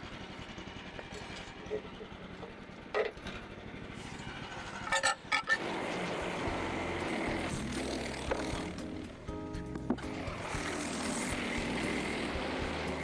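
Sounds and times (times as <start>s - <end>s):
engine humming low: 0.0s - 13.0s.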